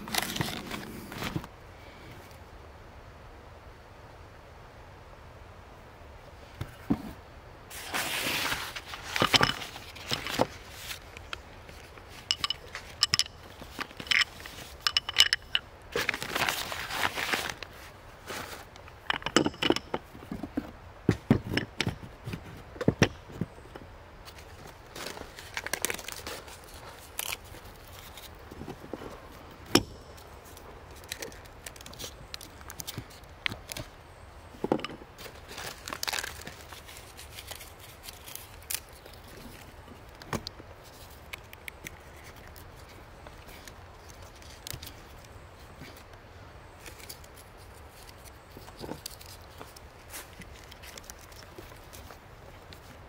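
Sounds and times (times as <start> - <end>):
rustling: 0.0 - 1.5, 6.6 - 53.0.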